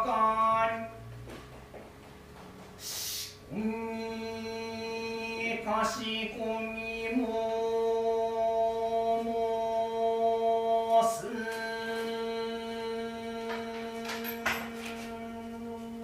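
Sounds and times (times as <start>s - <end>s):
man chanting in monotone: 0.0s - 1.0s, 3.5s - 16.0s.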